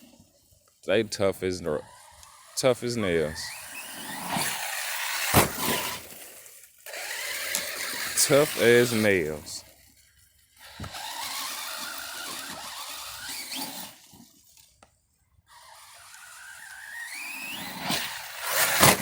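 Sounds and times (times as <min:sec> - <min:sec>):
electric motor whining: 0:01.6 - 0:09.7, 0:10.5 - 0:14.7, 0:15.5 - 0:19.0.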